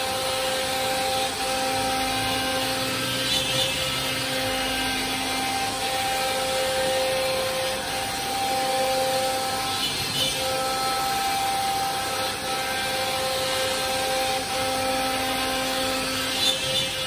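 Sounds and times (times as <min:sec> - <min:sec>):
router spindle motor whine: 0:00.0 - 0:17.0.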